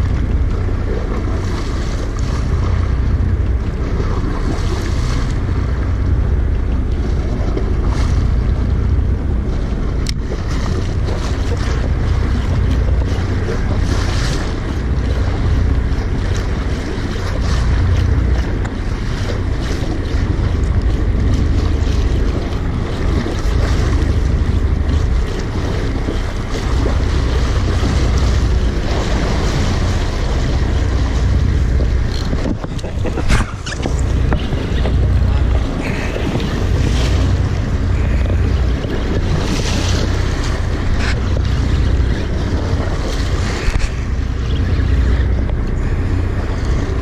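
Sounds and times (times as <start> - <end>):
sea waves: 0.0 - 47.0
wind buffeting microphone: 0.0 - 47.0.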